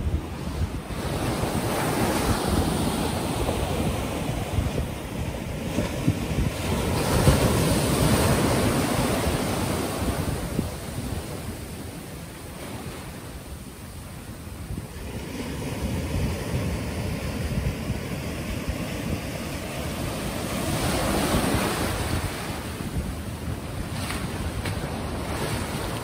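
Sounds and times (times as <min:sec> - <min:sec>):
ocean surf washing onto beach: 0:00.0 - 0:26.0
wind buffeting microphone: 0:00.0 - 0:26.0.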